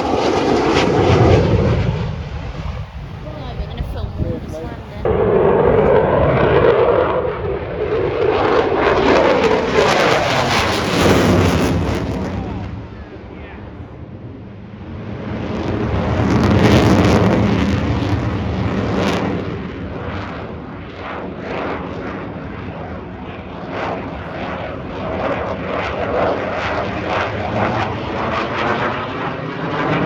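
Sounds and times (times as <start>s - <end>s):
aircraft engines rushing: 0.0s - 30.0s.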